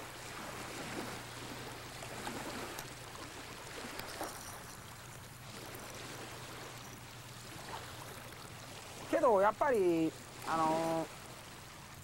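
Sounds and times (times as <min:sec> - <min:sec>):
lake waves lapping: 0:00.0 - 0:12.0.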